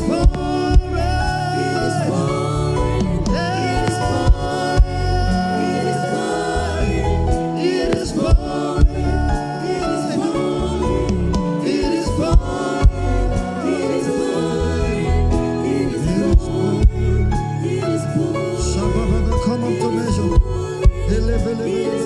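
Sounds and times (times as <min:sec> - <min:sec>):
gospel choir with band: 0:00.0 - 0:22.0.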